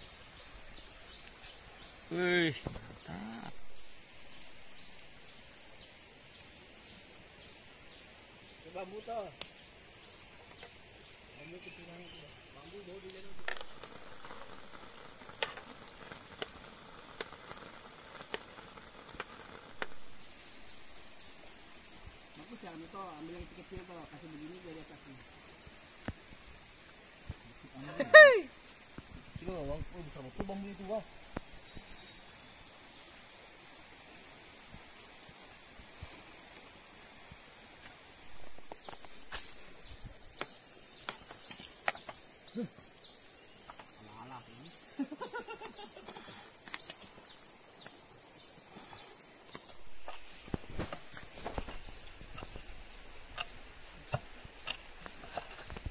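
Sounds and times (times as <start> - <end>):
crickets chirping: 0.0 - 55.9
insects droning: 0.0 - 55.9.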